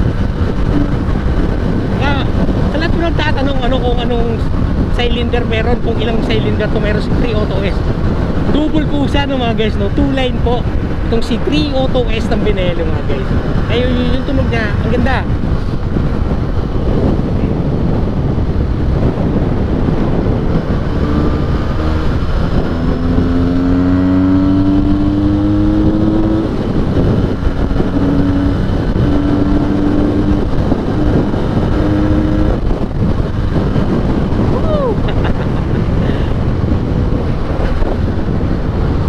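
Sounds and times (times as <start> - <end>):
motorcycle engine: 0.0 - 39.0
wind rumble on microphone: 0.0 - 39.0.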